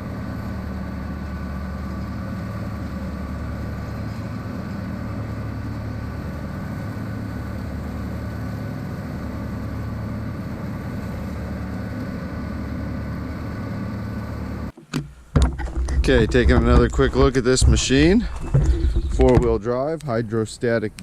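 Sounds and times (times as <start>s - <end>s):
mower cutting grass: 0.0s - 14.8s, 15.4s - 19.6s
diesel engine running under load: 0.0s - 21.0s.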